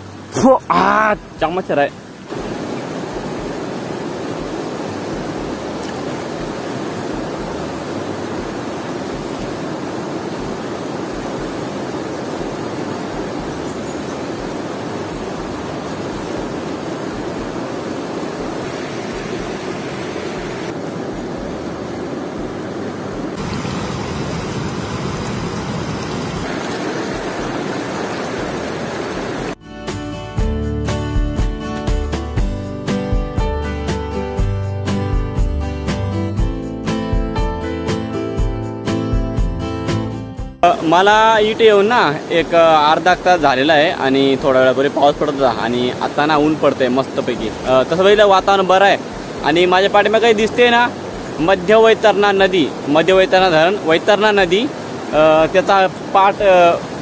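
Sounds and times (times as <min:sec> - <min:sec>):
river water rushing: 0:00.0 - 0:30.2, 0:40.6 - 0:57.0.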